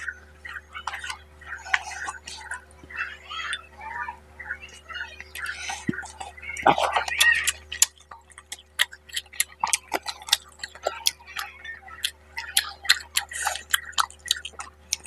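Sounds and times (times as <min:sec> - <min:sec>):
wet eating clicks and smacks: 0:00.0 - 0:03.6, 0:04.7 - 0:15.0.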